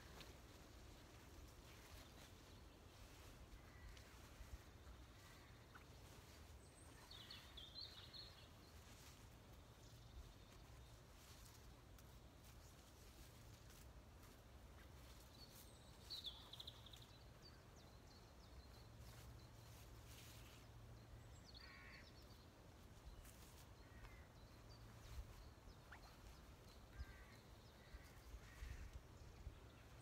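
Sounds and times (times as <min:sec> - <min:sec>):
faint woodland bird calls: 0:00.0 - 0:30.0.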